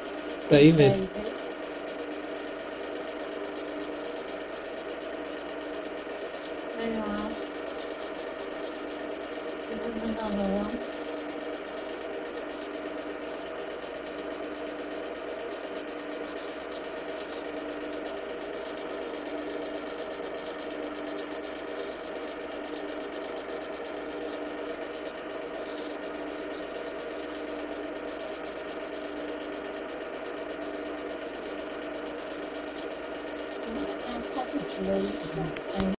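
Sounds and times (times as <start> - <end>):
projector motor hum: 0.0 - 35.9.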